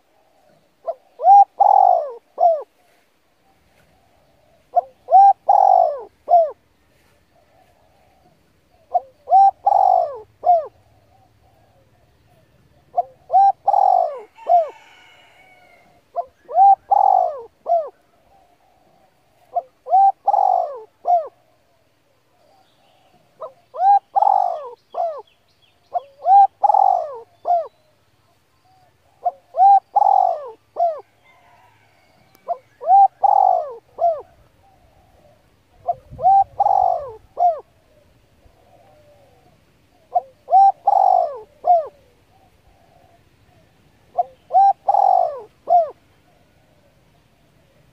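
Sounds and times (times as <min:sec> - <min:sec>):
bird calling: 0:00.0 - 0:47.9.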